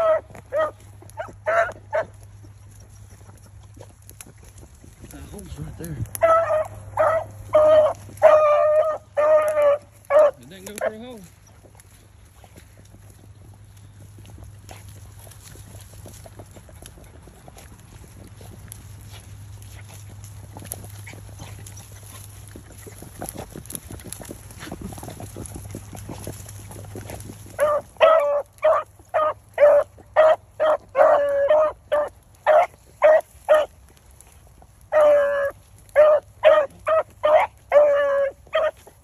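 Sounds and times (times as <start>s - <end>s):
hounds baying: 0.0s - 39.0s
rustling of dry brush: 0.0s - 39.0s.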